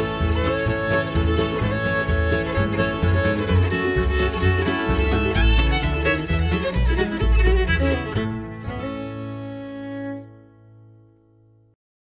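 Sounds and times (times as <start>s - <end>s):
acoustic string-band music: 0.0s - 11.2s.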